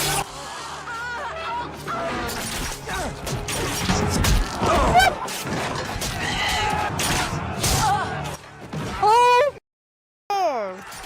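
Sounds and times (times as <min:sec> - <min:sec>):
dramatic music: 0:00.0 - 0:09.3.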